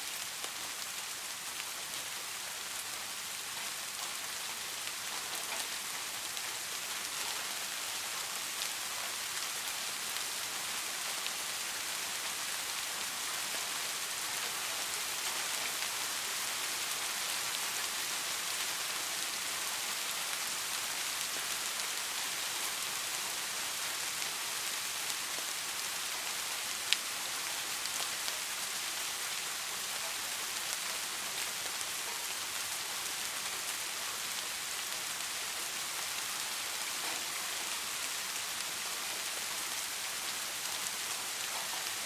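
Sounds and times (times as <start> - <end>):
steady rain hissing: 0.0 - 42.0.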